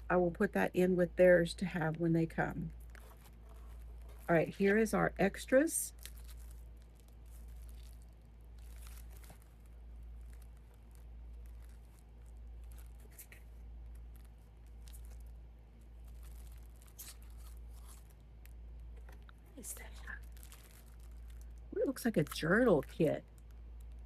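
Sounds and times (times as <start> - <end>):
packaging crinkling and tearing: 2.5 - 24.0.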